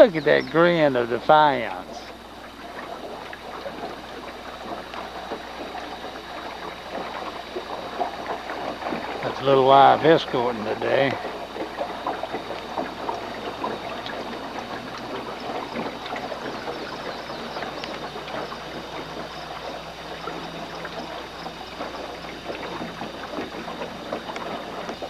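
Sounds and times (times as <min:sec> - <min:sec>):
water splashing against boat hull: 0:00.0 - 0:25.0.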